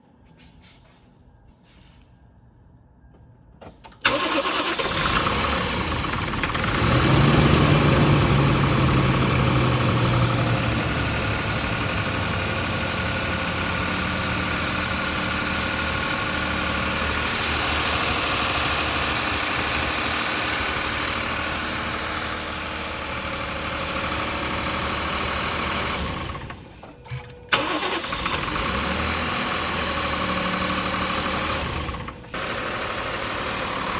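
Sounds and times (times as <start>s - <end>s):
car engine starting and idling: 3.7s - 33.9s.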